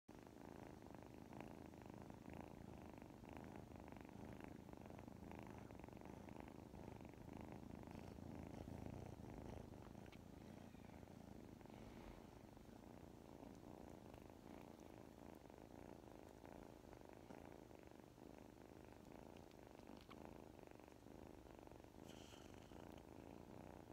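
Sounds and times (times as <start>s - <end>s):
kitten purring: 0.1s - 23.9s.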